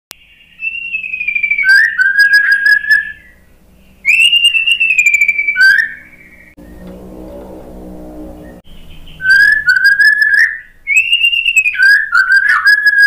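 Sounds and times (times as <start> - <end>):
bird singing whistled notes: 0.2 - 6.9, 8.7 - 13.0.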